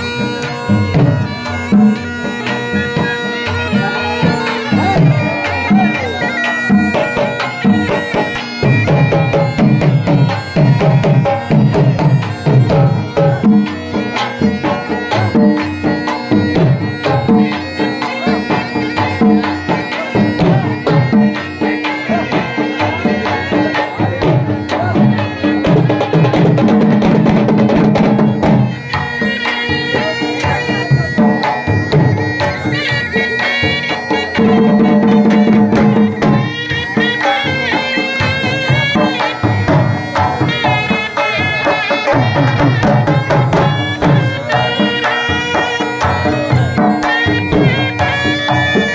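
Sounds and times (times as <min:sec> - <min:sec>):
drum beat: 0:00.0 - 0:17.6, 0:18.3 - 0:48.9.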